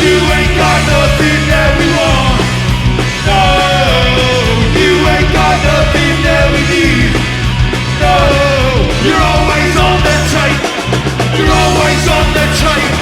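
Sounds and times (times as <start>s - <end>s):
drum strokes: 0.0s - 13.0s
punk rock band playing live: 0.0s - 13.0s.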